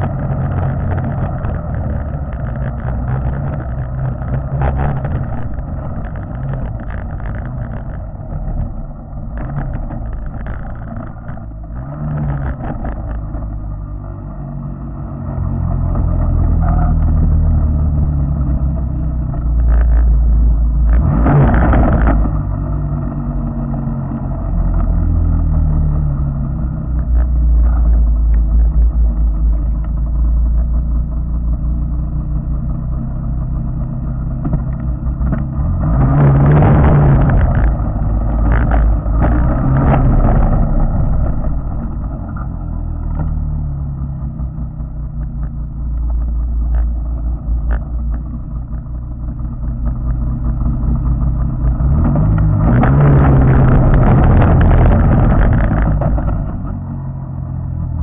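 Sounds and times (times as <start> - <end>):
muffled snowmobile engine running: 0.0 - 58.0.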